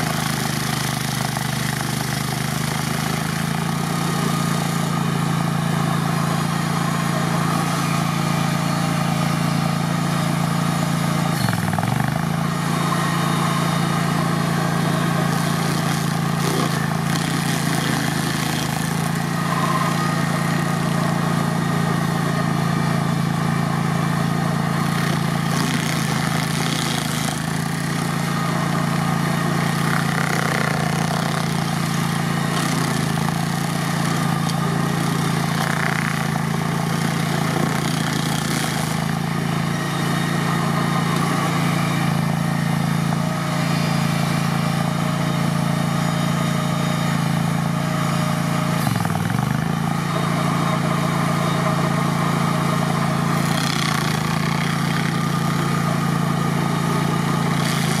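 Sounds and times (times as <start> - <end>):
cutter wheel grinding stump: 0.0 - 58.0
stump grinder engine running: 0.0 - 58.0.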